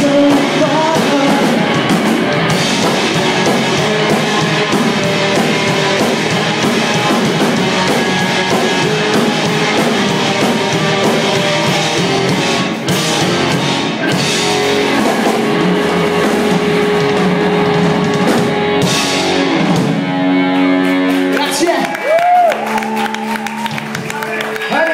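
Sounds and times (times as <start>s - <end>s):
rock band playing live: 0.0s - 24.9s.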